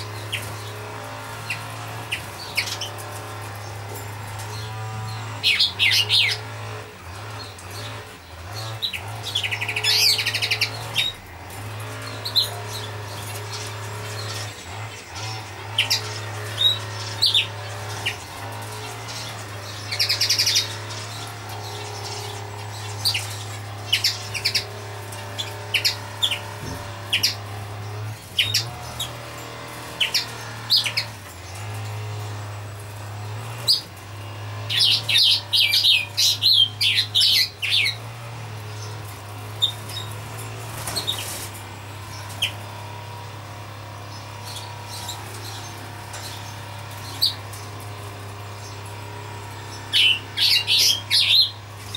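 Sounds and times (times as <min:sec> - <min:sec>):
buzzy bird trill: 0:00.0 - 0:51.9
small birds chirping: 0:00.0 - 0:51.9.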